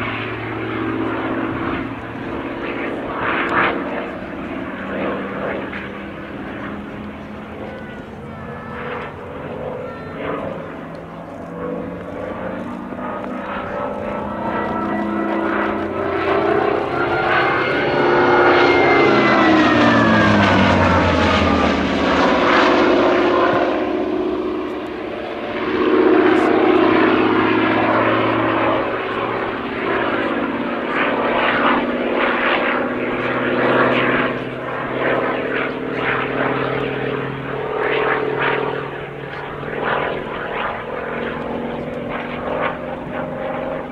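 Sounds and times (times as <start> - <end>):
propeller aircraft engine flypast: 0.0 - 43.9.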